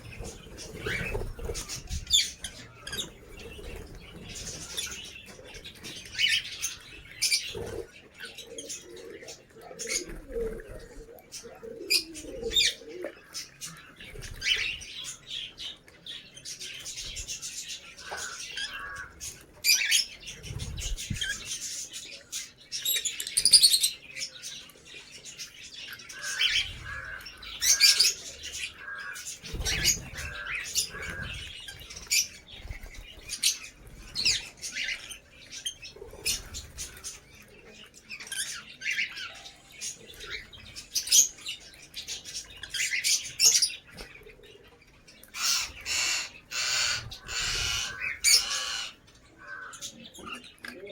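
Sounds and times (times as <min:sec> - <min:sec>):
lovebirds chirping and squawking: 0:00.0 - 0:50.9.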